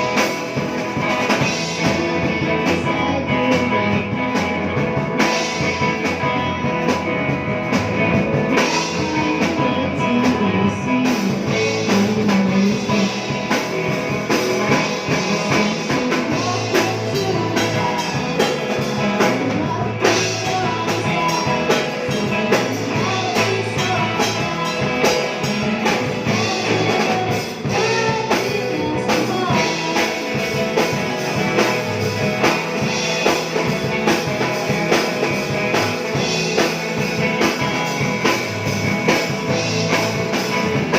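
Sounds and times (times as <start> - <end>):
person singing: 0.0 - 38.1
drum kit: 0.0 - 40.9
guitar: 0.0 - 40.9.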